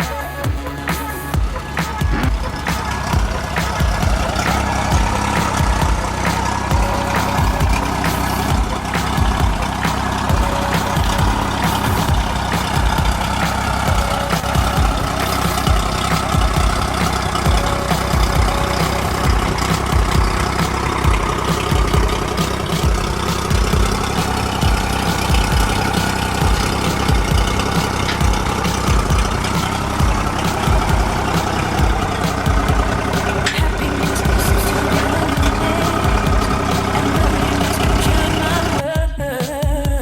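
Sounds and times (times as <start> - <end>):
outboard motor running: 0.0 - 38.8
low thumps: 0.4 - 38.8.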